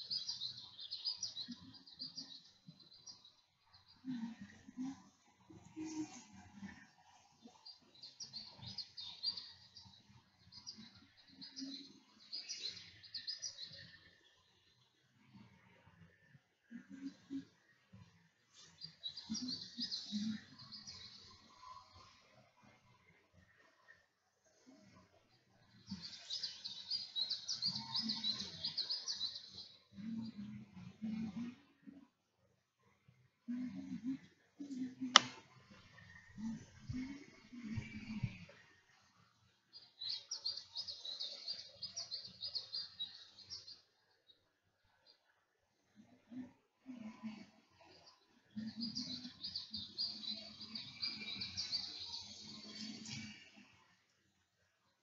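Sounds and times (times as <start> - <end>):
small songbirds chirping: 0.0 - 31.7, 33.1 - 54.0.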